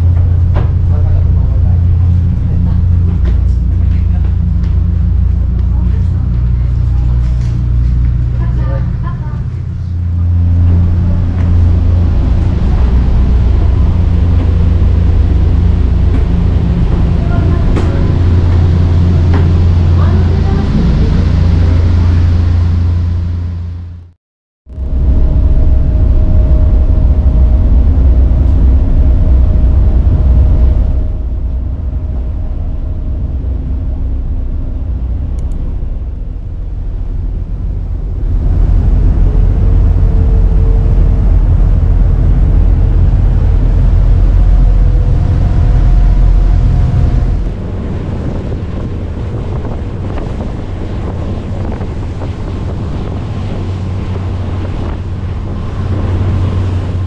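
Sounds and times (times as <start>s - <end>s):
wind buffeting microphone: 0.0s - 23.6s, 24.7s - 57.0s
water rushing past hull: 0.0s - 24.1s, 24.7s - 57.0s
ferry engine drone: 0.0s - 57.0s.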